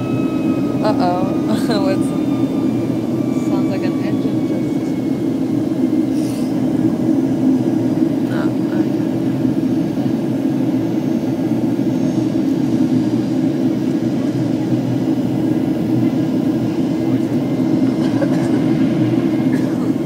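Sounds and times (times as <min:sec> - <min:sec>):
jet engine drone in cabin: 0:00.0 - 0:20.0.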